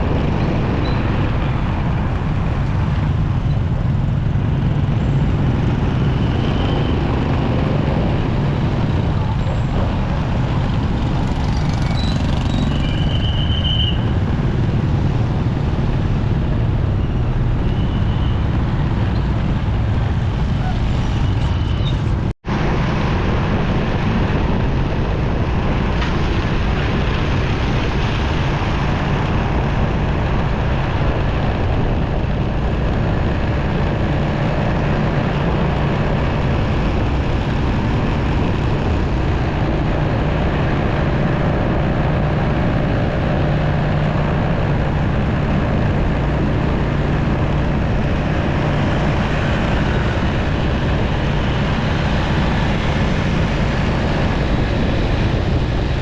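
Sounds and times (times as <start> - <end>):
motorcycle engine drone: 0.0 - 56.0
road and traffic noise: 0.0 - 56.0.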